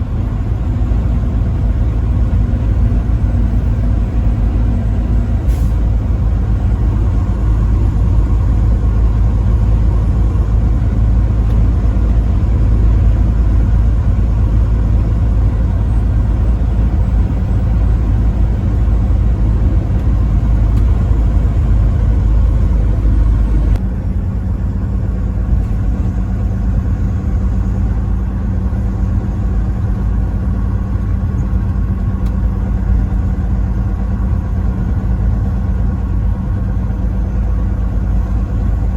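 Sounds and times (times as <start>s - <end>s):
truck engine and road rumble: 0.0s - 38.9s.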